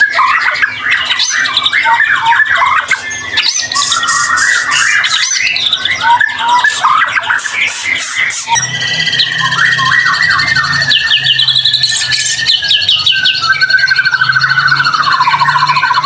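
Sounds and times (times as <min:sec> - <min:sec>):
bird singing whistles and trills: 0:00.0 - 0:16.0.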